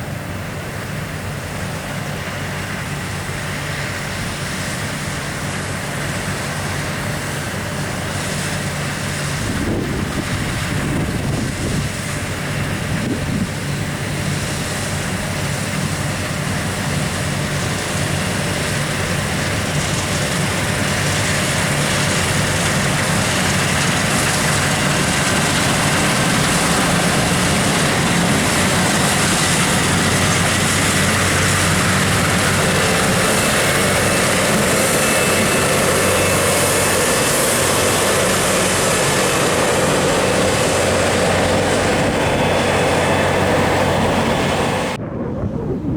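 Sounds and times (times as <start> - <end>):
combine harvester engine drone: 0.0 - 45.9.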